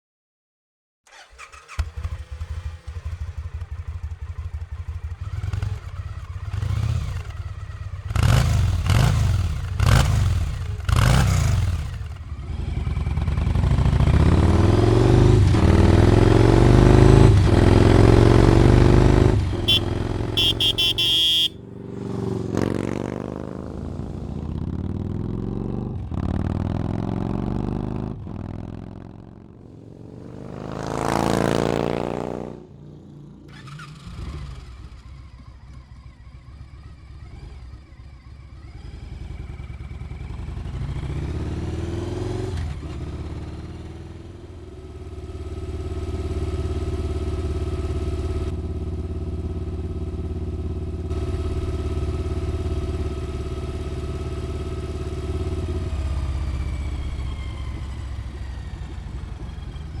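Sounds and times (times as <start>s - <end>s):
motorcycle passing by: 1.1s - 35.6s, 36.2s - 60.0s
motorcycle engine accelerating: 1.1s - 60.0s.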